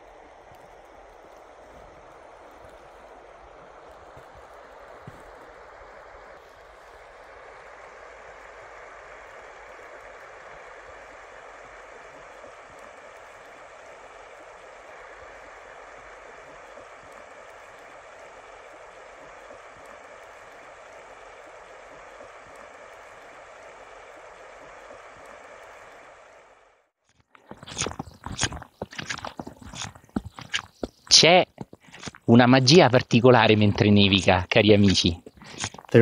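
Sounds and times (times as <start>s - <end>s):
river water over stones: 0.0s - 36.0s.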